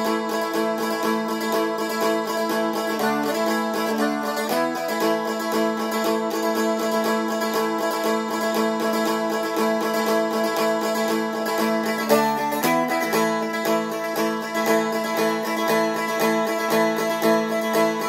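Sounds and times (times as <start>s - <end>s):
dulcimer strummed: 0.0s - 18.0s.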